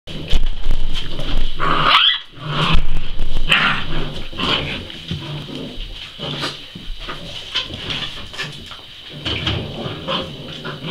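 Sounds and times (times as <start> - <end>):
puppies growling: 0.1 - 10.9.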